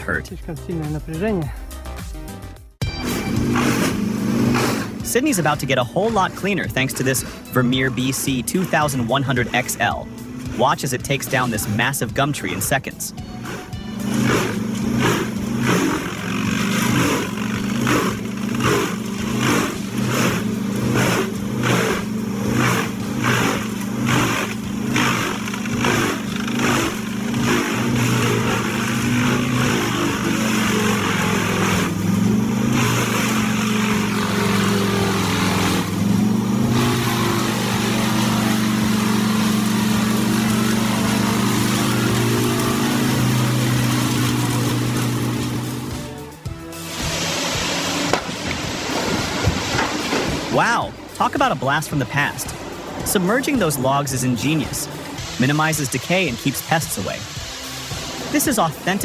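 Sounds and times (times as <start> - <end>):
wood chipper chewing wood: 3.0 - 59.0.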